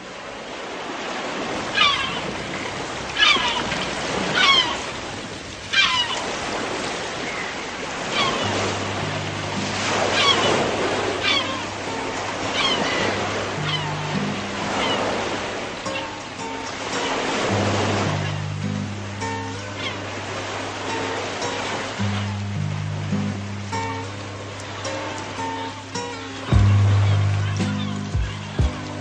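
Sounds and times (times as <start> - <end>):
sea waves washing: 0.0 - 29.0.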